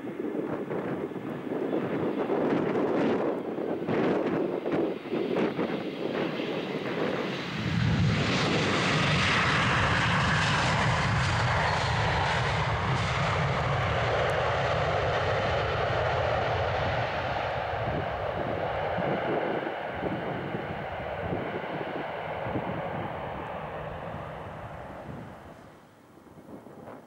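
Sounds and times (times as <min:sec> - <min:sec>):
jet airliner roar passing: 0:00.0 - 0:26.8
wind on microphone: 0:00.0 - 0:27.0.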